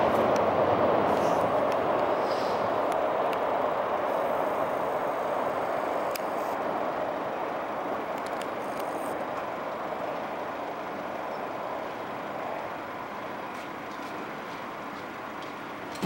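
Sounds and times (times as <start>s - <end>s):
train rushing past: 0.0s - 16.0s.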